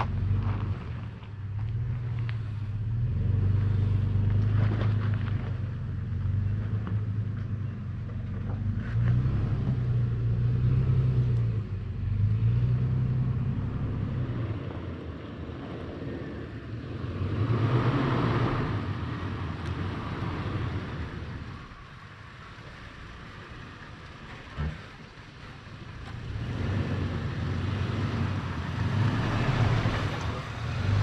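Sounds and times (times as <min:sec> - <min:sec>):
engine running at low speed: 0:00.0 - 0:31.0.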